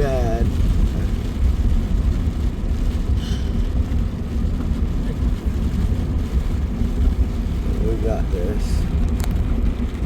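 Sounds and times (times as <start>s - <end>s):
car road noise on wet road: 0.0s - 10.0s.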